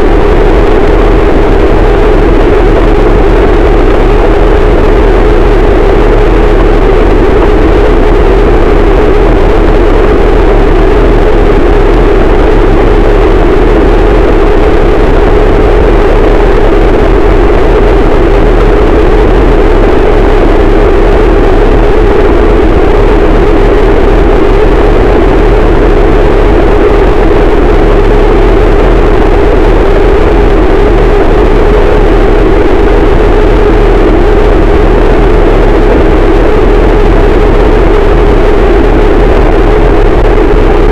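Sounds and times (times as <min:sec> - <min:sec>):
distorted static noise wall: 0:00.0 - 0:40.9.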